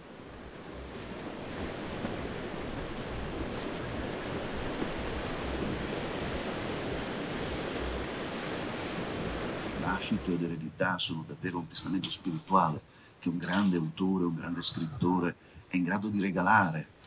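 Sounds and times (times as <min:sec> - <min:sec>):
waves on rocky shore: 0:00.0 - 0:16.1.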